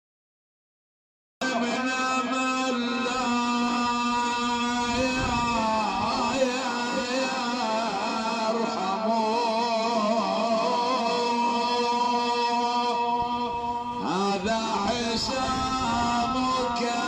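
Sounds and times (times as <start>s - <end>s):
man chanting: 1.4s - 17.0s
steady held drone: 1.4s - 17.0s.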